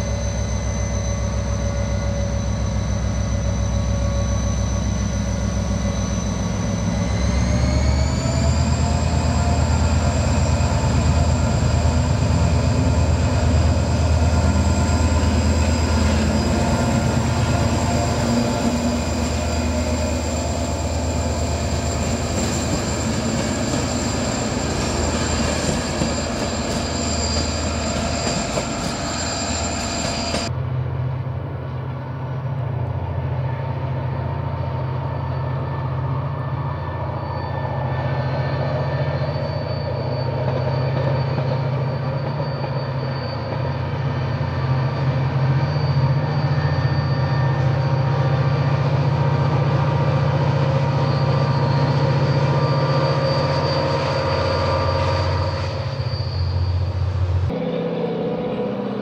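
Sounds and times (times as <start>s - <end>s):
diesel train engine: 0.0s - 59.0s.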